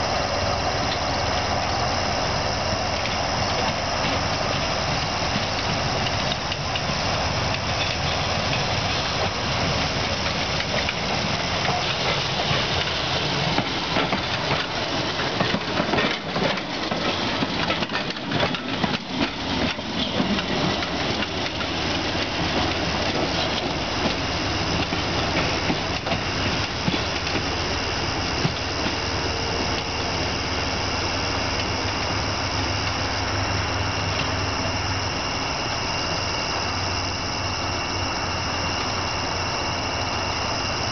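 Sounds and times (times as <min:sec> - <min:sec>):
trolley wheels clicking over rail joints: 0:00.0 - 0:40.9.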